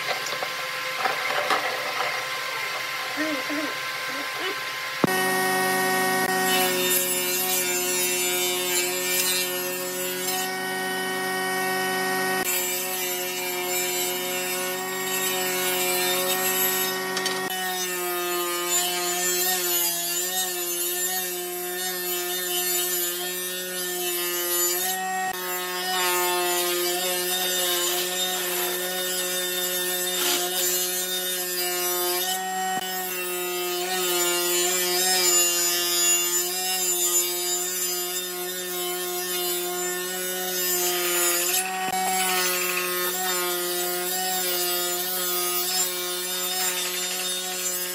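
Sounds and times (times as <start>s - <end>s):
table saw motor hum: 0.0s - 47.9s
saw blade rasping through wood: 6.2s - 47.9s.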